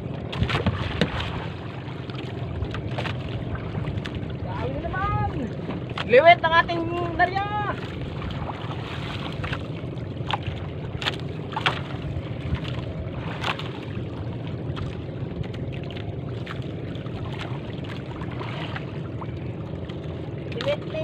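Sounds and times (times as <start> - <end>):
boat engine low rumble: 0.0 - 21.0.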